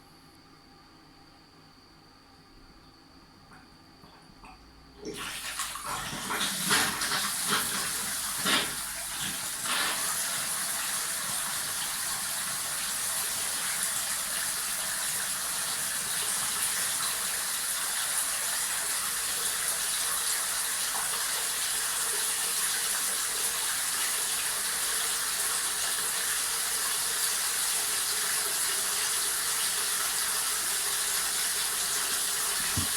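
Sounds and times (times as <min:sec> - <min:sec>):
water running: 0:05.0 - 0:32.9.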